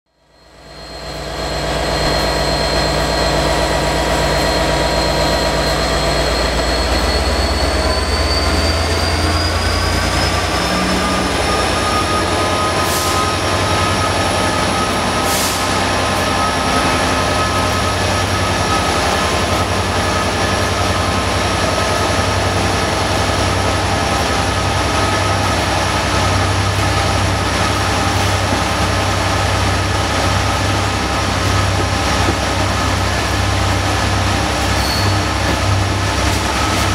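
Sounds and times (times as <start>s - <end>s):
diesel train accelerating: 0.1s - 36.9s
idling diesel locomotive: 0.1s - 36.9s.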